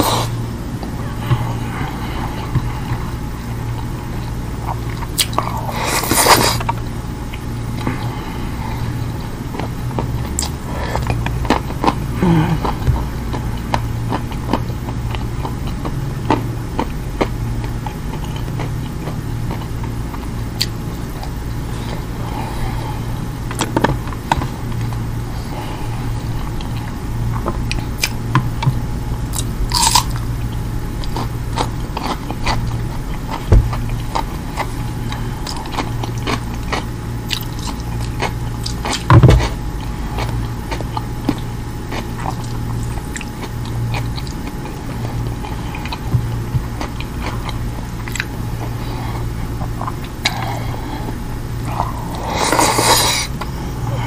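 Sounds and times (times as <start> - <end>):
chewing and wet mouth sounds: 0.0 - 54.0
steady low hum: 0.0 - 54.0.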